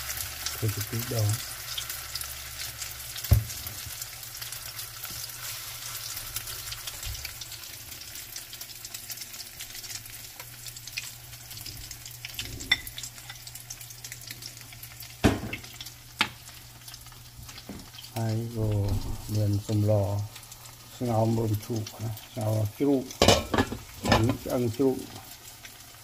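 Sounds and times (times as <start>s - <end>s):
omelet sizzling in a frying pan: 0.0s - 26.0s.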